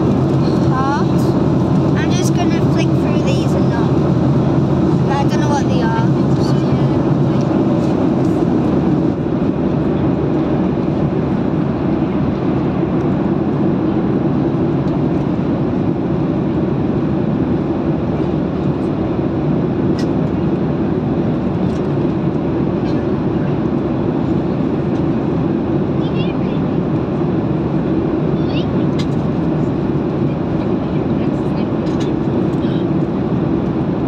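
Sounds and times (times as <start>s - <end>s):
vehicle rumble from inside cabin: 0.0s - 34.0s.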